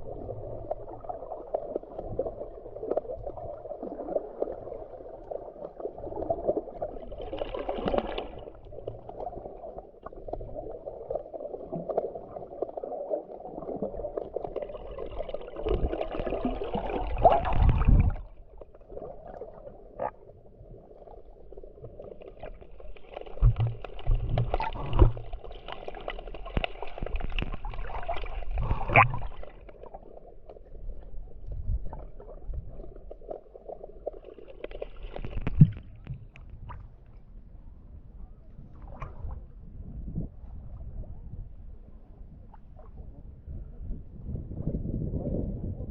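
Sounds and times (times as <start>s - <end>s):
sea water sloshing and splashing: 0.0s - 37.3s, 38.7s - 39.6s.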